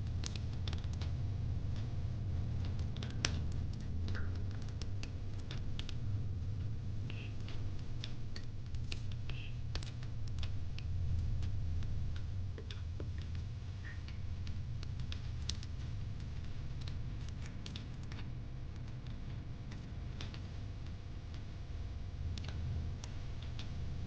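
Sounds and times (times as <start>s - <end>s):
fire rumbling: 0.0s - 20.6s
fire crackling and popping: 0.0s - 24.0s.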